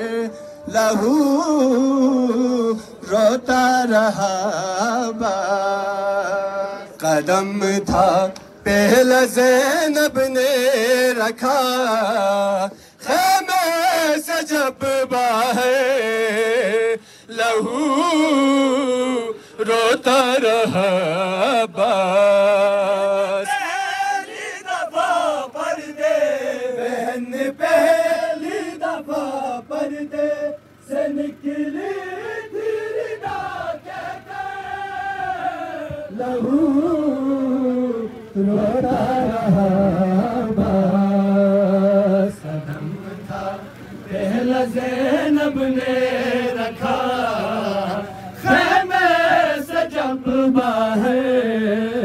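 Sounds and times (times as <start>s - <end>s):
men chanting a lament: 0.0s - 52.0s.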